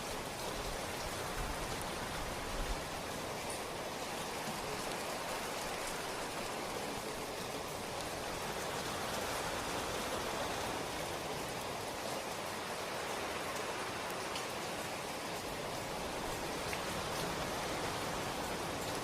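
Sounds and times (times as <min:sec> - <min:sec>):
raindrops pattering on a surface: 0:00.0 - 0:19.0
steady rainfall: 0:00.0 - 0:19.0.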